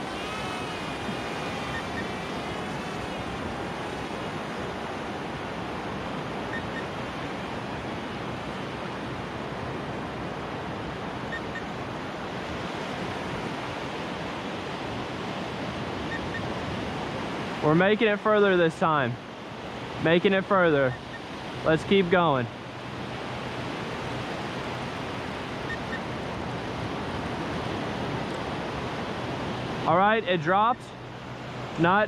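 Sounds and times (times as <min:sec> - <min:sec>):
small drone motors whining: 0:00.0 - 0:16.8, 0:19.5 - 0:29.5
ocean surf washing on beach: 0:00.0 - 0:32.0.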